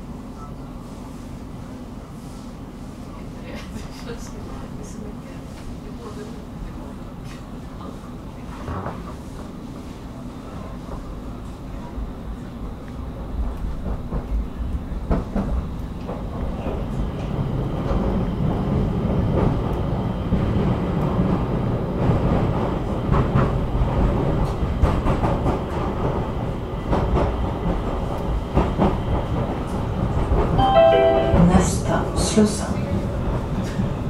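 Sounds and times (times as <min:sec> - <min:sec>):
metro train rumbling: 0:00.0 - 0:34.0.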